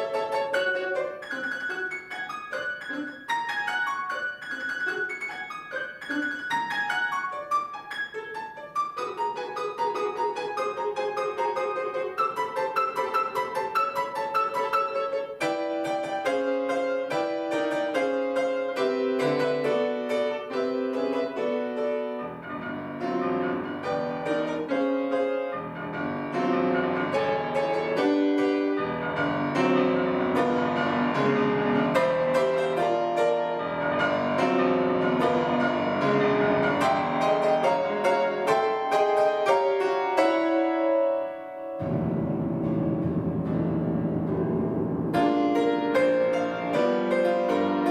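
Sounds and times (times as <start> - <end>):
solo piano classical piece: 0.0 - 47.9.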